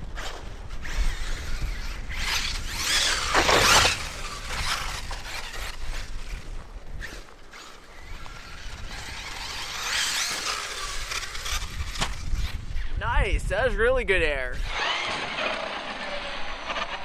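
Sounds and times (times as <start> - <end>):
tyres churning dirt: 0.0 - 13.0, 14.6 - 17.0
electric motor whine: 0.2 - 13.0, 14.6 - 17.0.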